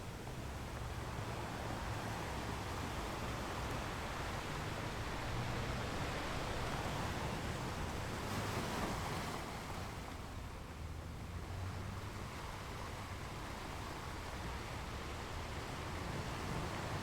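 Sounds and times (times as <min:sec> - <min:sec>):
ocean waves washing on a beach: 0:00.0 - 0:17.0.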